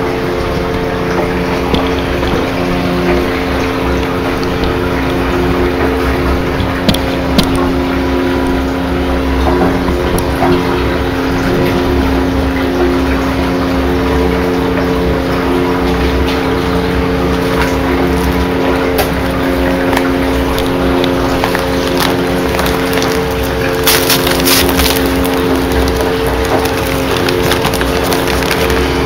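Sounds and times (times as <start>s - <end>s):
sump pump motor hum: 0.0s - 29.0s
water churning: 0.0s - 29.0s.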